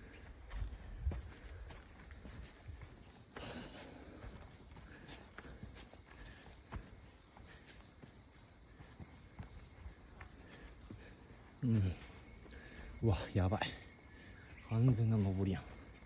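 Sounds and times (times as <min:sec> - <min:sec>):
faint footsteps on trail: 0:00.0 - 0:16.0
insects chorus: 0:00.0 - 0:16.0.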